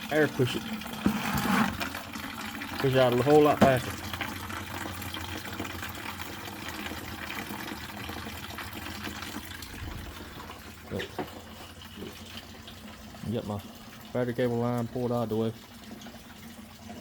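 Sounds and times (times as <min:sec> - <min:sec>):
liquid gushing out: 0:00.0 - 0:14.1.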